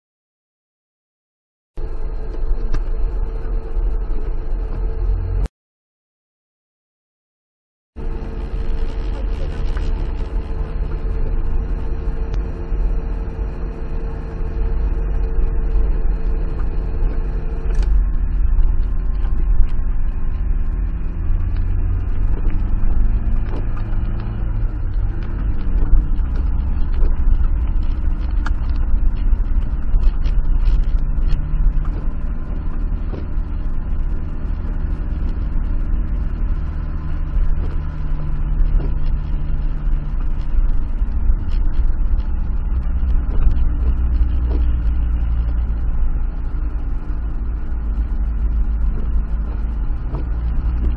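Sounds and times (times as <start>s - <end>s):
car engine running: 1.8s - 5.5s, 8.0s - 50.9s
tyre noise on wet road: 8.0s - 50.9s.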